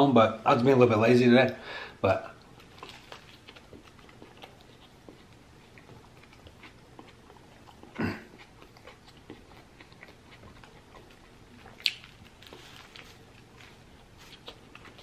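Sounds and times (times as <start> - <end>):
chewing with mouth closed: 2.3 - 15.0.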